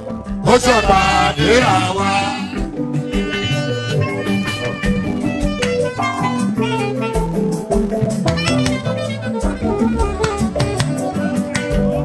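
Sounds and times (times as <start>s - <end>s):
bass line: 0.0s - 12.0s
saxophone melody: 0.3s - 12.0s
steady percussion beat: 0.4s - 12.0s.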